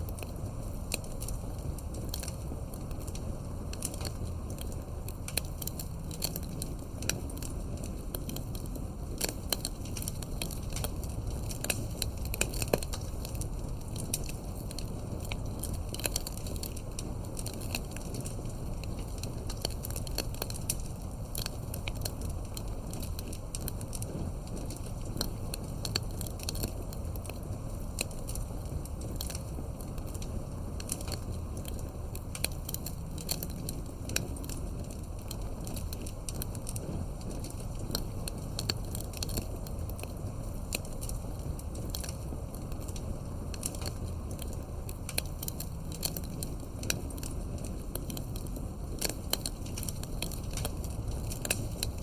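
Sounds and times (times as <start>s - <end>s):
campfire crackling and popping: 0.0s - 52.0s
low rush of flame: 0.0s - 52.0s.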